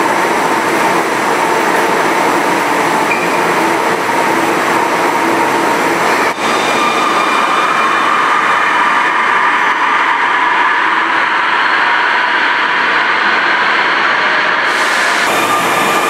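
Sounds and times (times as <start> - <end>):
standing train hum and hiss: 0.0 - 16.0
train moving with electric whine: 0.0 - 16.0.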